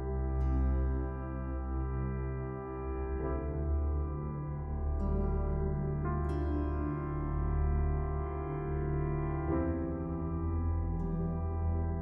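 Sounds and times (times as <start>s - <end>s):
soft ambient music with bell tones: 0.0s - 12.0s.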